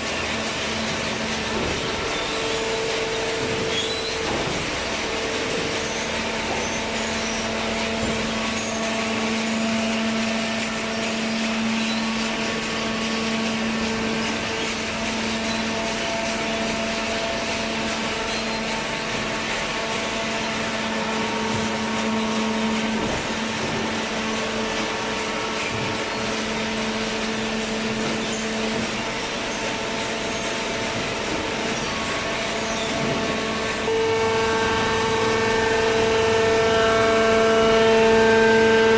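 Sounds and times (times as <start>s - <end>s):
baler machine hum and hiss: 0.0s - 38.9s
low machine tone: 0.0s - 38.9s.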